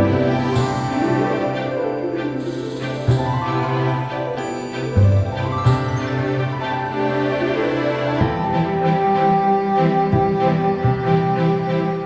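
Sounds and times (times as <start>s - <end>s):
sustained instrumental music: 0.0s - 12.0s.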